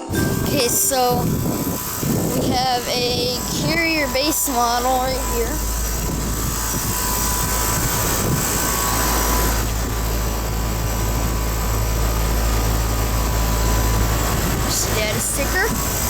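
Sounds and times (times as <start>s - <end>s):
compressor hum: 0.0s - 16.0s
fan rushing: 0.0s - 16.0s.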